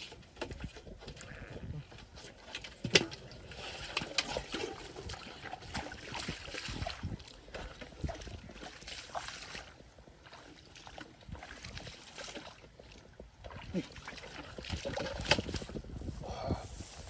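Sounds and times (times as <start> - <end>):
splashing in muddy water: 0.0 - 17.0.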